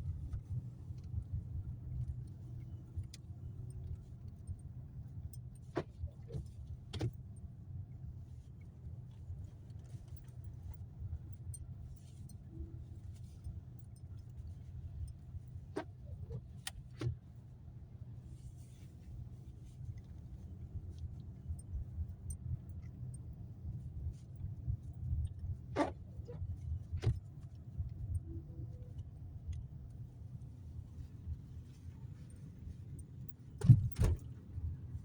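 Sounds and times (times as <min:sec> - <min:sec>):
car rumbling on snowy road: 0:00.0 - 0:35.0.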